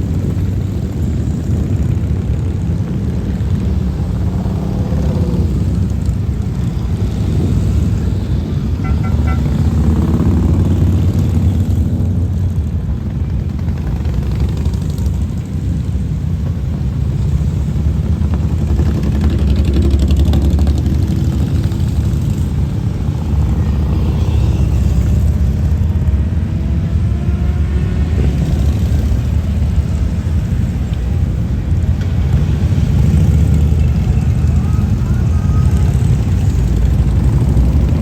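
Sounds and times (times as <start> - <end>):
motorcycle engines rumbling: 0.0 - 38.0
motorcycles passing by: 0.0 - 38.0.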